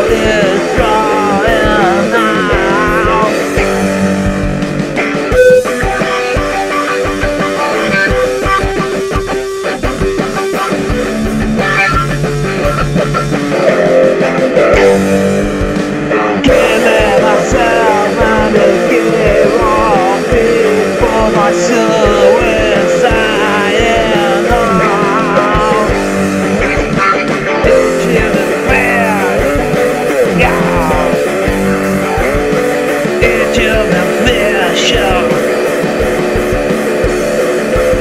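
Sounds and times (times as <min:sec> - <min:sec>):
rock music with electric guitar: 0:00.0 - 0:38.0
wavering lead guitar line: 0:00.0 - 0:38.0.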